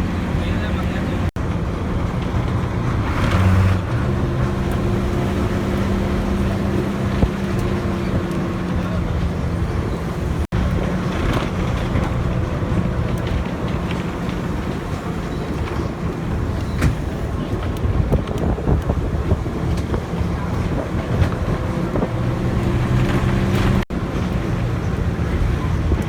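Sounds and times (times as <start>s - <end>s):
vehicle engine running: 0.0s - 26.0s
wind buffeting microphone: 0.0s - 26.0s.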